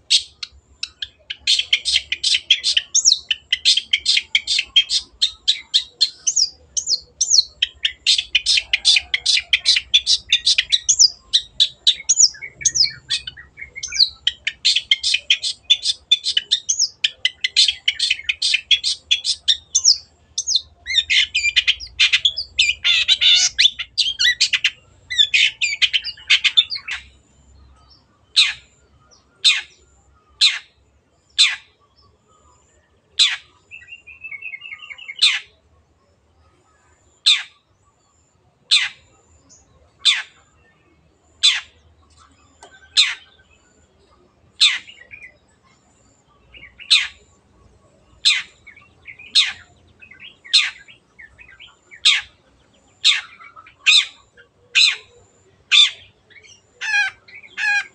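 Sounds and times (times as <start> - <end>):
bird trill: 0.0 - 57.9.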